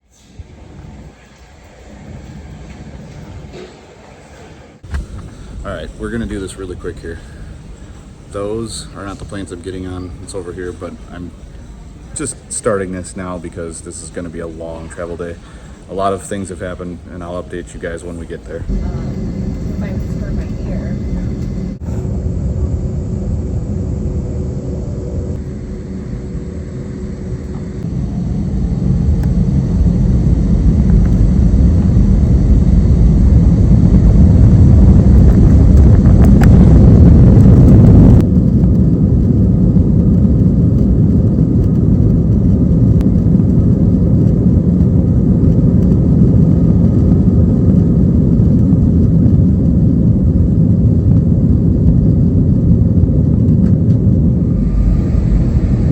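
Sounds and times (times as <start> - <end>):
vehicle rumbling in motion: 4.7 - 55.9.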